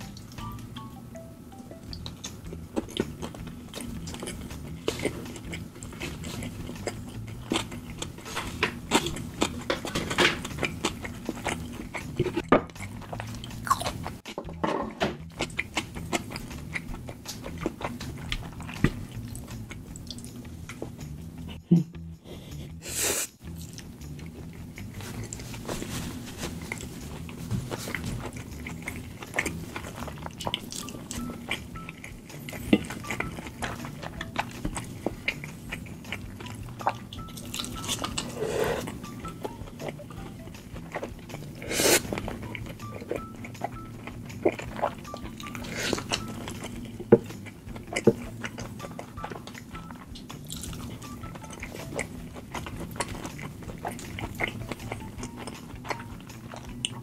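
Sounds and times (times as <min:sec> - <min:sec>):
chewing with wet clicks and smacks: 0:01.9 - 0:14.3, 0:15.2 - 0:21.5, 0:23.4 - 0:25.7, 0:26.6 - 0:57.0.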